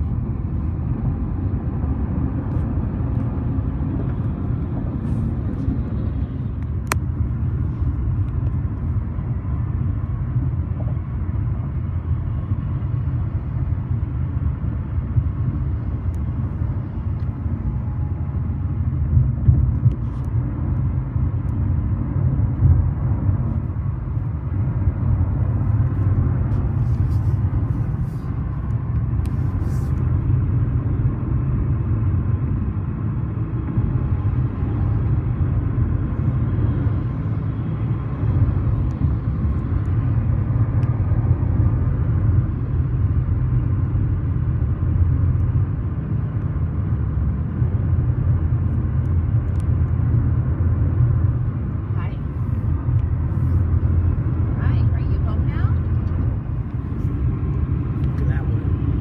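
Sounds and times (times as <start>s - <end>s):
car cabin road noise: 0.0s - 59.0s.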